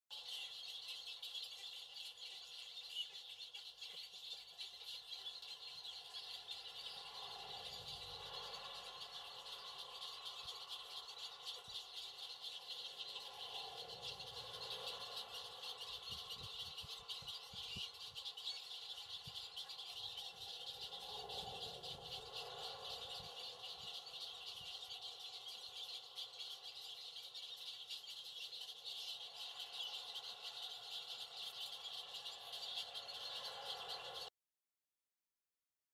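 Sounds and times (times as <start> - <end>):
high-pitched wildlife chirping: 0.1 - 34.3.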